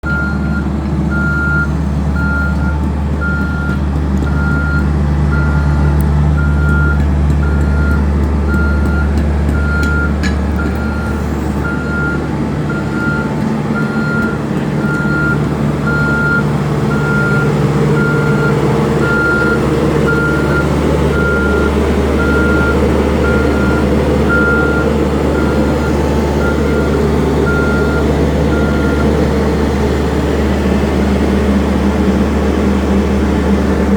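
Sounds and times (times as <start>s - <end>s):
backup alarm beeping: 0.0s - 29.3s
diesel engine running: 0.0s - 33.9s.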